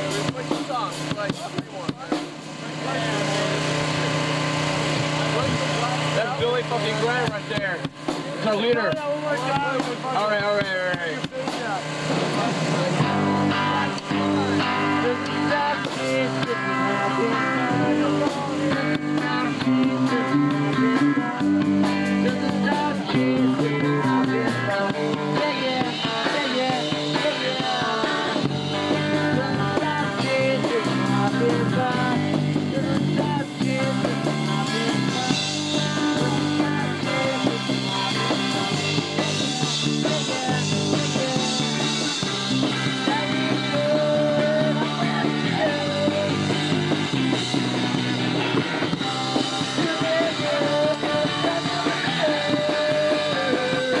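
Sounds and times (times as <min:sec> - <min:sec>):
punk rock band playing live: 0:00.0 - 0:54.0.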